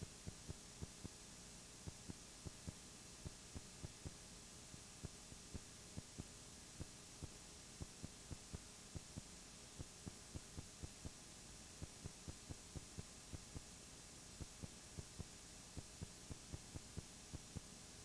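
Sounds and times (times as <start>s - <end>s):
faint hum and hiss: 0.0s - 18.0s
soft low ticks: 1.9s - 11.2s, 11.8s - 13.7s, 14.4s - 17.7s.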